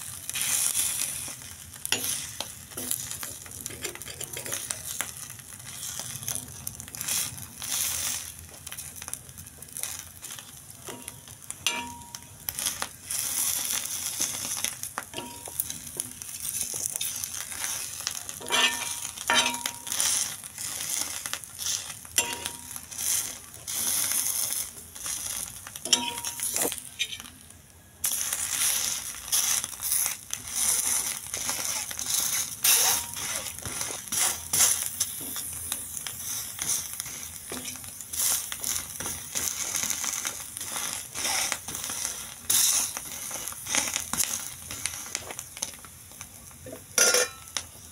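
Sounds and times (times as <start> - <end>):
egg sizzling on griddle: 0.0 - 47.9
spoon scraping and tapping griddle: 0.3 - 27.4, 28.1 - 47.7.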